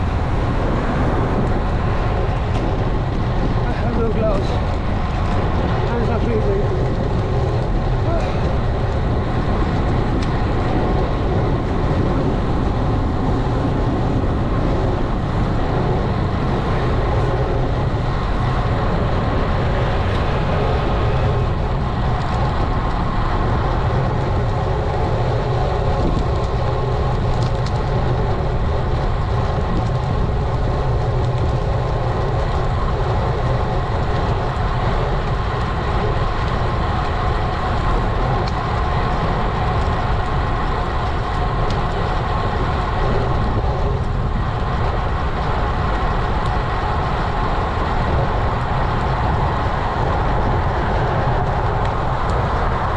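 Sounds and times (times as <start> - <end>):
road noise: 0.0 - 52.9
wind rushing on microphone: 0.0 - 52.9.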